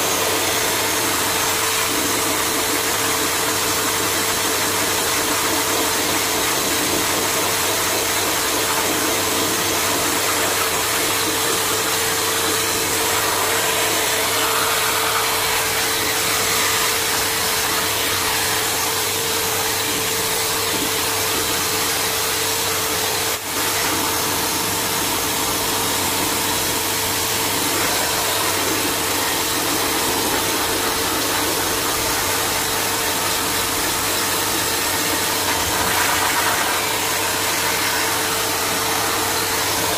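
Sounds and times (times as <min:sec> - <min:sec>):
electric blow dryer running: 0:00.0 - 0:39.9.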